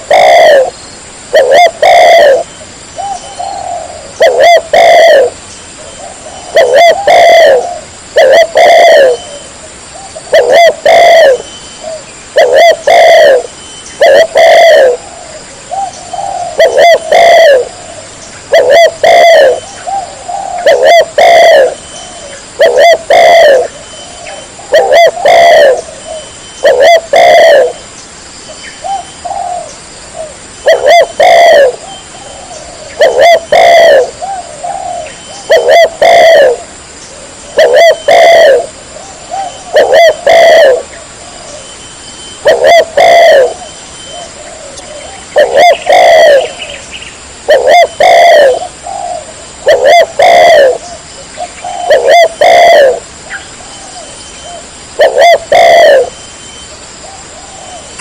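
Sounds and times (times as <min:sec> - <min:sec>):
dove cooing: 0:00.0 - 0:27.9, 0:28.8 - 0:58.0.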